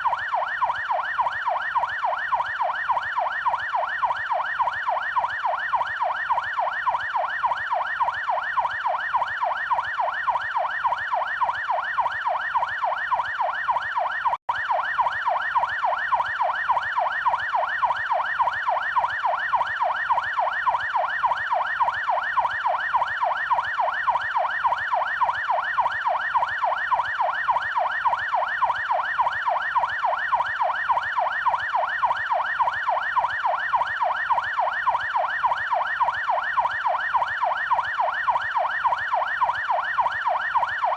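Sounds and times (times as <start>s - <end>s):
police siren yelp: 0.0s - 40.9s.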